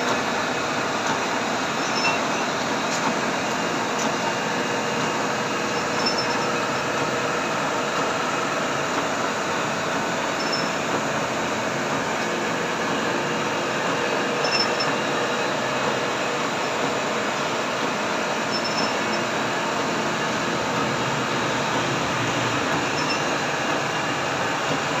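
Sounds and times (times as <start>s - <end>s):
gear shaper machine running: 0.0s - 25.0s.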